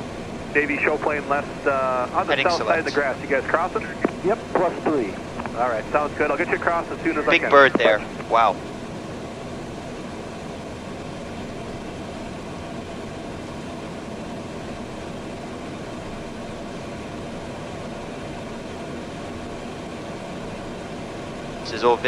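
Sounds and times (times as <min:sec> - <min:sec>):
airflow over airframe: 0:00.0 - 0:22.0
faint steady whine: 0:00.0 - 0:22.0
jet engines humming: 0:00.0 - 0:22.0.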